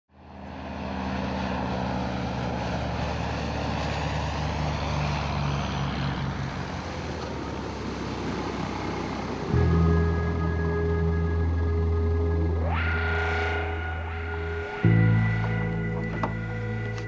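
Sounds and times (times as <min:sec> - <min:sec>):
electric propeller drone: 0:00.2 - 0:17.0.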